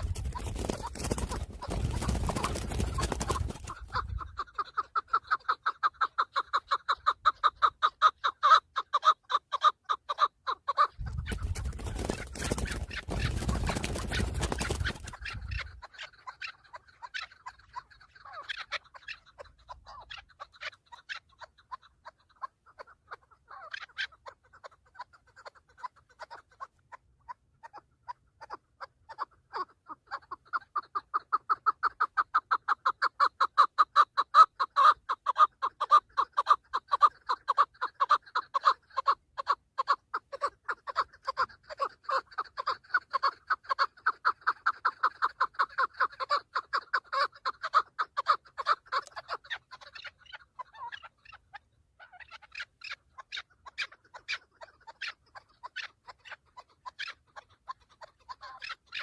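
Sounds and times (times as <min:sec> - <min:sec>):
partridge calling: 0:00.0 - 0:59.0.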